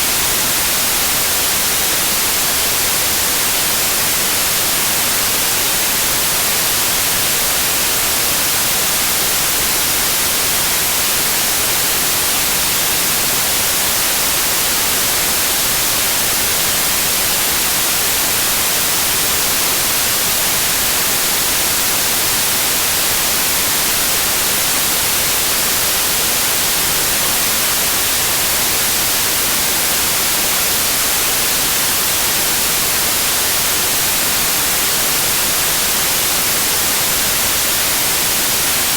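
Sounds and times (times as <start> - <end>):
loud white noise hiss: 0.0 - 38.9.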